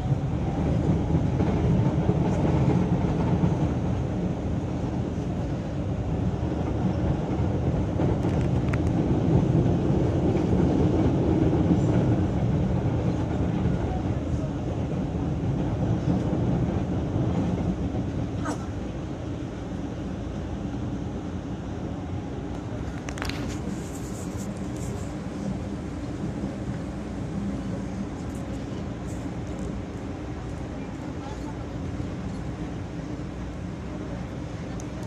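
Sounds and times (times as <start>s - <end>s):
light-rail train rumble: 0.0s - 35.0s.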